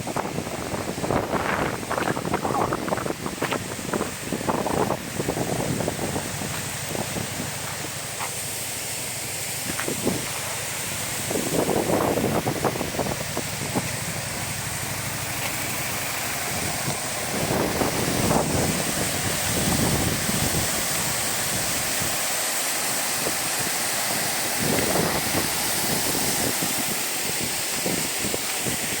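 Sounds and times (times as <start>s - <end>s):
wind buffeting microphone: 0.0s - 8.4s, 9.1s - 22.2s, 23.0s - 29.0s
waterfall rushing: 0.0s - 29.0s.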